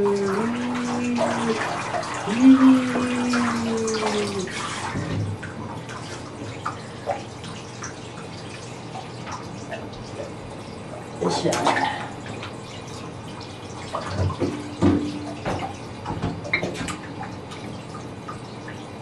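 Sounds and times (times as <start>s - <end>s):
shower water splashing into bathtub: 0.0s - 19.0s.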